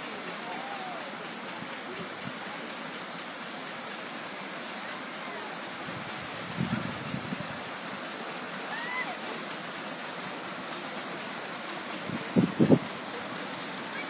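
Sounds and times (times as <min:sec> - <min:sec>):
flooded river rushing: 0:00.0 - 0:14.0.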